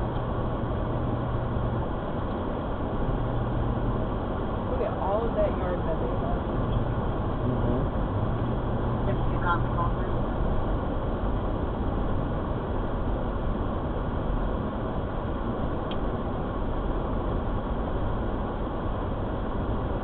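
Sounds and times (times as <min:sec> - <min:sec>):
car cabin road and engine noise: 0:00.0 - 0:20.0.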